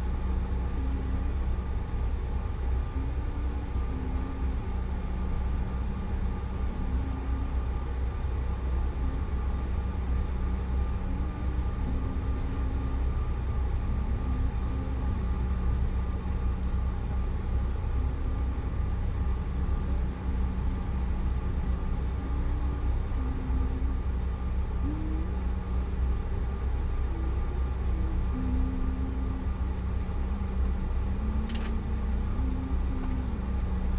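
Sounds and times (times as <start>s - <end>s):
jet cabin rumble and whine: 0.0s - 33.9s.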